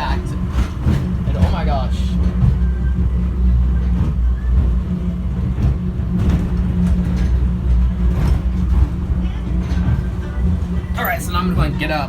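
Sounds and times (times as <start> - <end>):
subway train rumbling at speed: 0.0 - 12.0.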